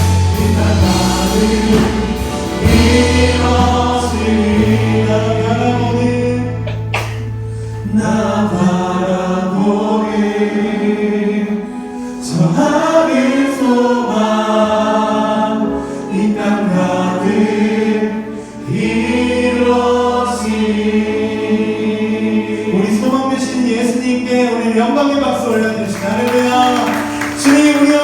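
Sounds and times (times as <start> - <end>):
praise team singing: 0.0 - 28.0
sustained instrumental accompaniment: 0.0 - 28.0.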